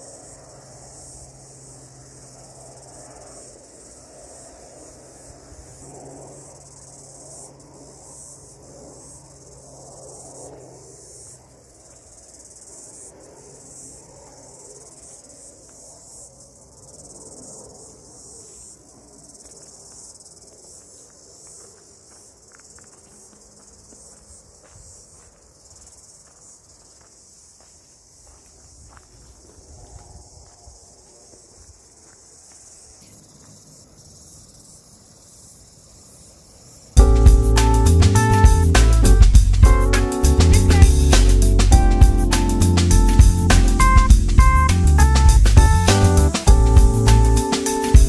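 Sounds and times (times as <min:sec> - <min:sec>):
cicadas singing: 0:00.0 - 0:48.0.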